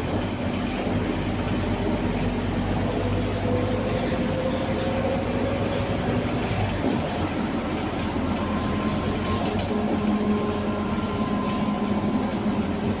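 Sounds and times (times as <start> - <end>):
bus diesel engine drone with whine: 0.0 - 13.0.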